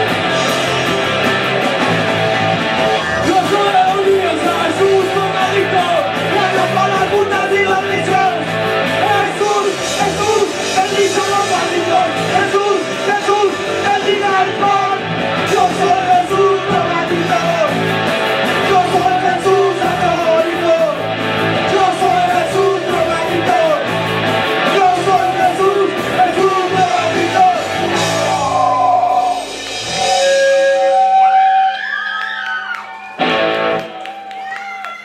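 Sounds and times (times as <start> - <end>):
drum kit: 0.0 - 31.3
bass guitar: 0.0 - 31.9, 33.1 - 34.3
electric guitar: 0.0 - 35.0
lead singer: 0.1 - 30.5.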